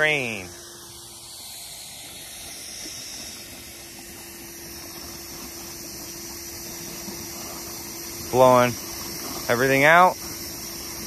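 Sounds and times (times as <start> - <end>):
air bubbling up through pool water: 0.0 - 11.0
steady motor hum: 0.0 - 11.0.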